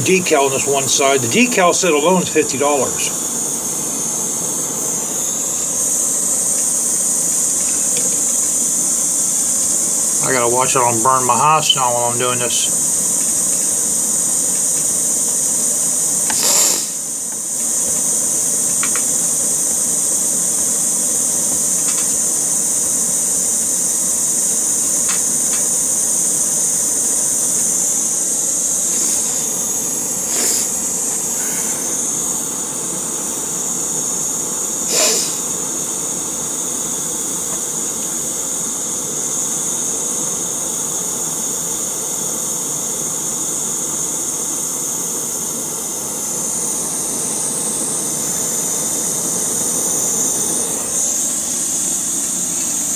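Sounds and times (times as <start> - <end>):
gas torch hissing: 0.0 - 52.9.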